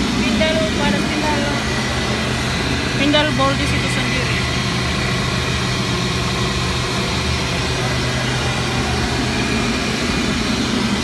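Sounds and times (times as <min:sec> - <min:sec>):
engine room machinery drone: 0:00.0 - 0:11.0.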